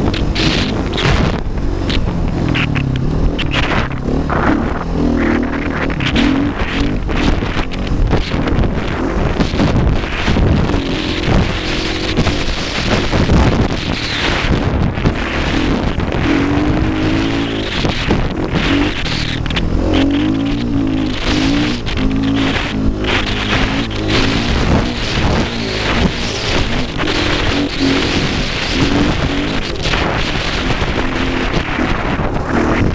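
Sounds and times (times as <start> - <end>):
dirt bike engine revving: 0.0 - 32.9
wind buffeting microphone: 0.0 - 32.9.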